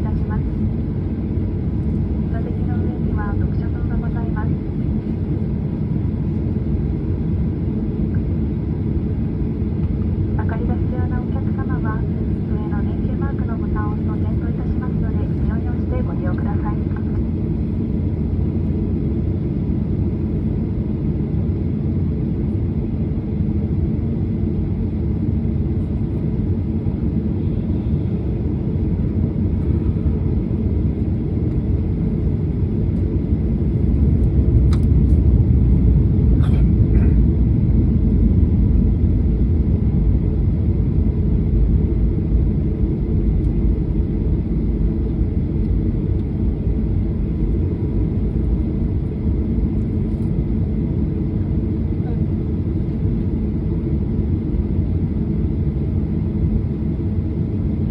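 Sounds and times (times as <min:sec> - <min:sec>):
jet engines rumbling in cabin: 0:00.0 - 0:57.9.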